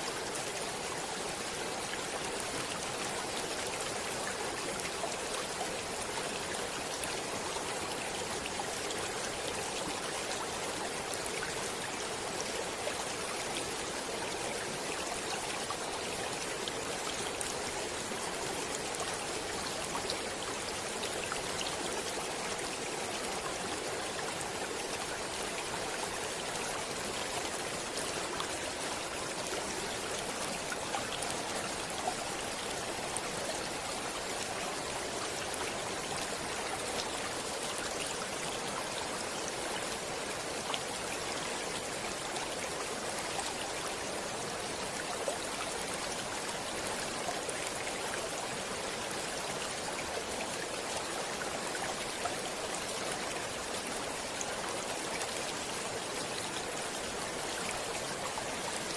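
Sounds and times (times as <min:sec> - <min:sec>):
stream water rushing: 0:00.0 - 0:58.9.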